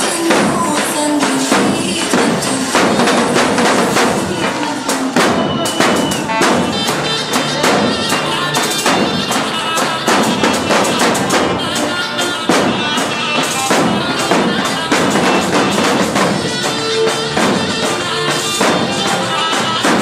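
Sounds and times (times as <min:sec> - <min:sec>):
bass drums beating dance rhythm: 0:00.0 - 0:20.0.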